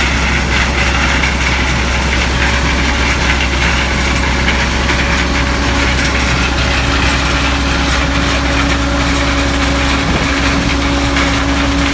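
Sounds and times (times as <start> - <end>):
tractor engine droning: 0.0 - 11.9.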